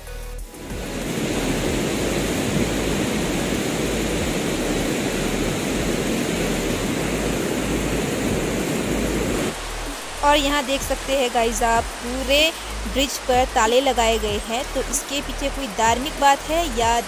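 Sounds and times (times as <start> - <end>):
river rushing over rocks: 0.5 - 17.0.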